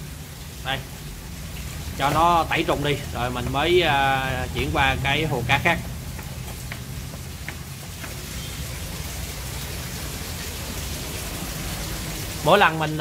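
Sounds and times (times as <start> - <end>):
steady rushing noise: 2.0 - 12.6.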